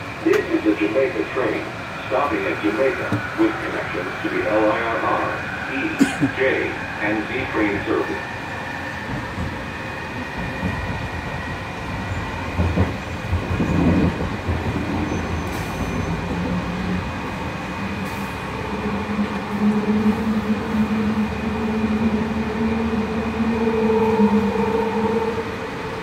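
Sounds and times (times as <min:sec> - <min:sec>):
train rumbling and rolling: 0:00.0 - 0:26.0.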